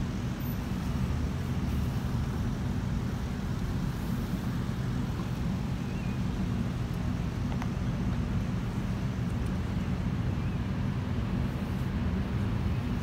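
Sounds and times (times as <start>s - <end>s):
vehicles driving slowly past: 0.0s - 13.0s.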